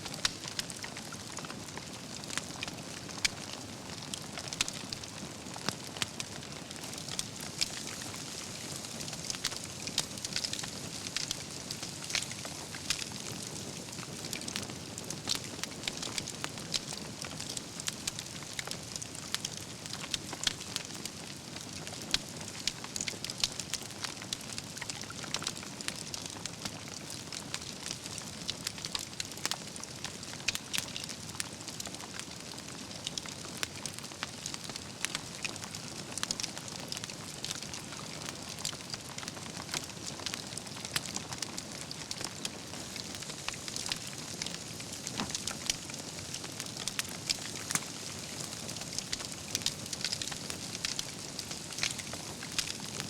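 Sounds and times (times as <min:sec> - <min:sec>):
campfire flames hissing: 0:00.0 - 0:53.0
logs crackling and popping: 0:00.0 - 0:53.0.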